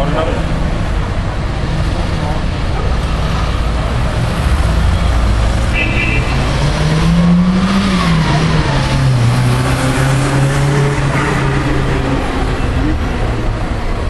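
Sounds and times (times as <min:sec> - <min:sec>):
traffic noise: 0:00.0 - 0:14.0
car engine passing: 0:00.2 - 0:14.0.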